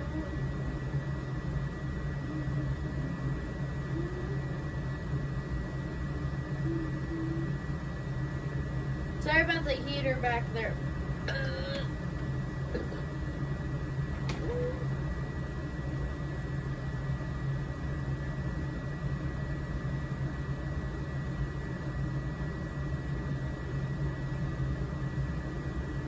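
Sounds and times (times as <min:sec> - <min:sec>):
blower fan humming: 0:00.0 - 0:26.0
faint high whine: 0:00.0 - 0:26.0.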